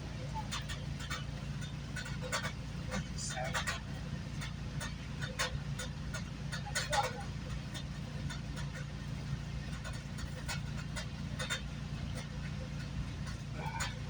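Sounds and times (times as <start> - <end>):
train low hum: 0.0 - 14.0
clicks and rattles: 0.2 - 14.0.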